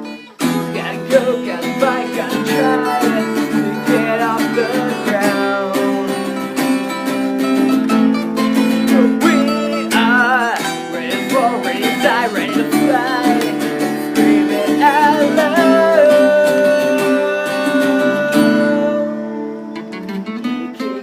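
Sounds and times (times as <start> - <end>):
acoustic guitars strumming: 0.0 - 21.0
wavering lead melody: 0.0 - 21.0.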